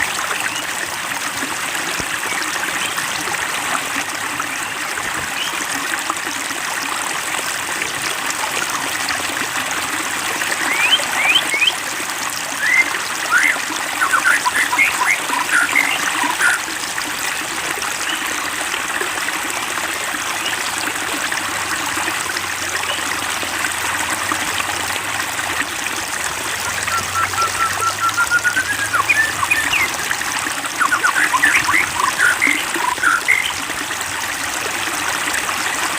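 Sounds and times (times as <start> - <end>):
water trickling and splashing: 0.0 - 35.9.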